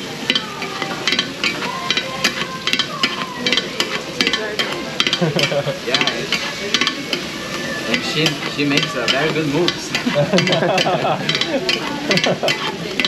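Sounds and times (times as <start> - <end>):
metal spatulas clacking on griddle: 0.0 - 13.0
vegetables sizzling: 0.0 - 13.0.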